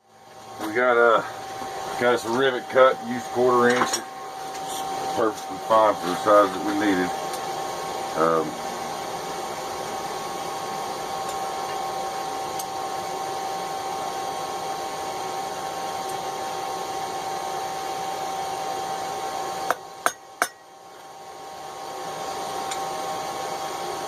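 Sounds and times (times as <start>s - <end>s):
whirring hum: 0.0s - 24.0s.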